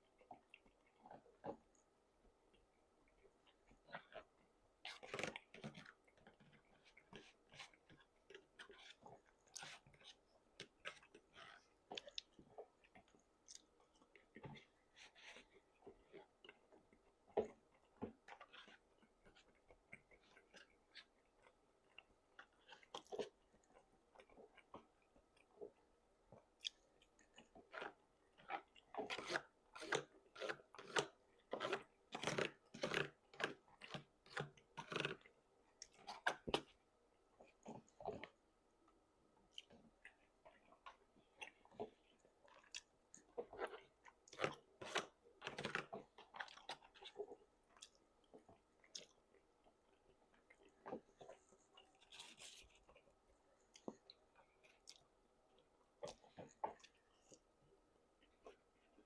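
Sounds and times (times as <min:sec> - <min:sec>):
person chewing food: 0:00.0 - 0:38.5, 0:39.3 - 0:59.0.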